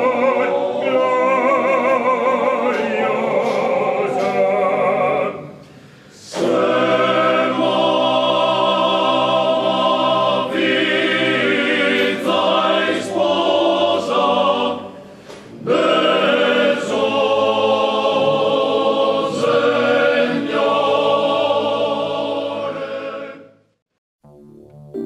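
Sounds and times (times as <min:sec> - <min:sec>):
choir singing sacred piece: 0:00.0 - 0:23.7.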